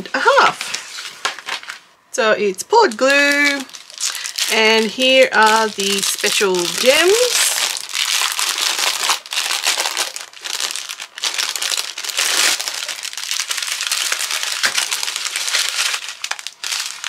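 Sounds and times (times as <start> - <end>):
plastic bags crinkling: 0.2 - 1.9, 2.7 - 17.0.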